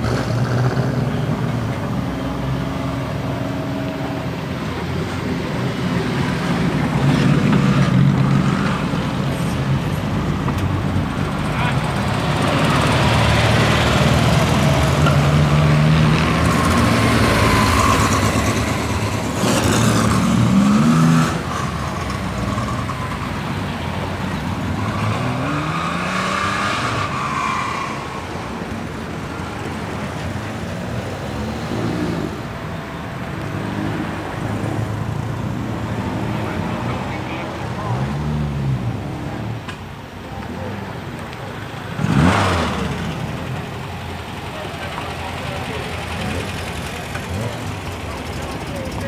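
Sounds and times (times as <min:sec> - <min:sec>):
race car engines revving past: 0:00.0 - 0:49.0.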